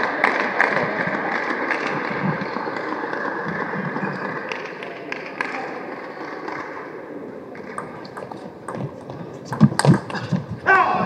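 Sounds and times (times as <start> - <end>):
hall ambience murmur: 0.0 - 11.0.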